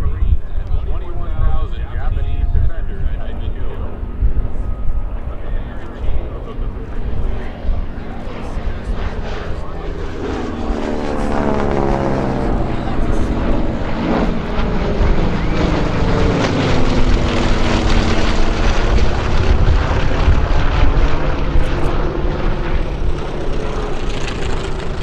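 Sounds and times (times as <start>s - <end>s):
propeller planes flying overhead: 0.0s - 25.0s.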